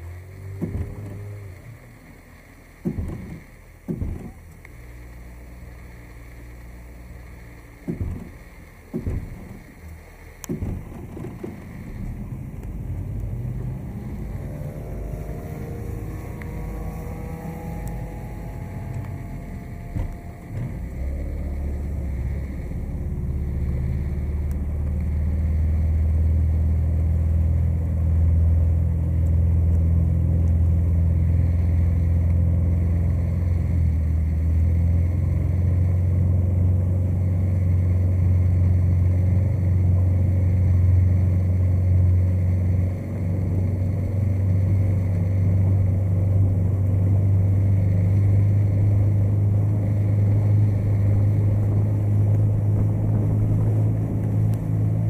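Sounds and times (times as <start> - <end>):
motorboat engine drone: 0.0 - 55.0.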